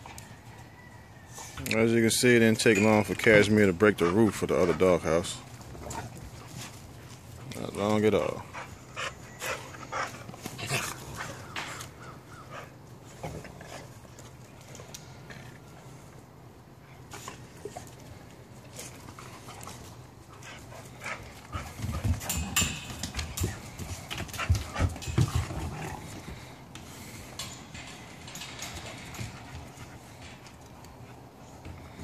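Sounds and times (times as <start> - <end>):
puppies panting: 2.6 - 15.3, 16.8 - 32.0
puppies play-fighting: 2.8 - 32.0.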